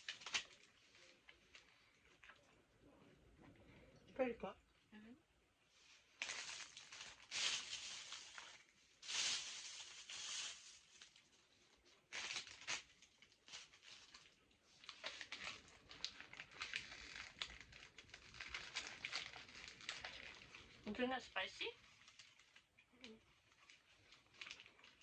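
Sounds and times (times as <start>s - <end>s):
plastic packaging crinkling: 0.0s - 2.4s, 5.8s - 25.0s.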